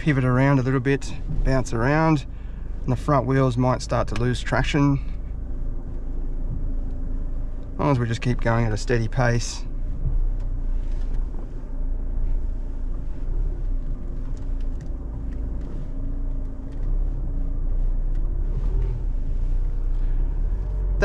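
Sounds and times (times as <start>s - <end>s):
diesel engine low rumble: 0.0s - 21.0s.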